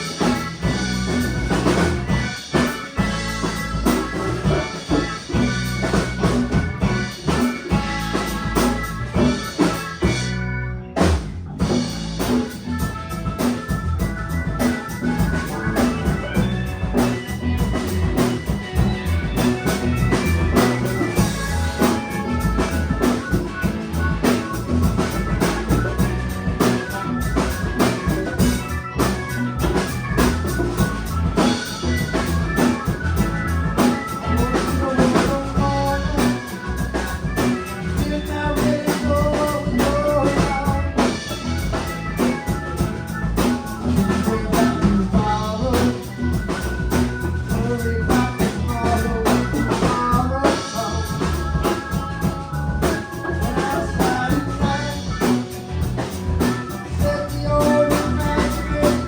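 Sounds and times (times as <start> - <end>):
bass guitar: 0.0 - 59.0
drum kit steady beat: 0.0 - 59.0
electric guitar: 0.0 - 59.0.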